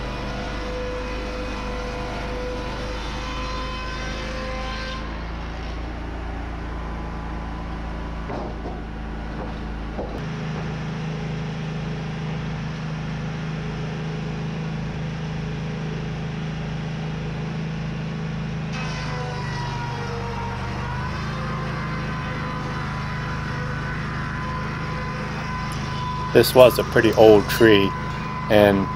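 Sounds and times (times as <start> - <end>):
sawmill machinery engine drone: 0.0 - 28.9
edger machine running: 5.0 - 28.9.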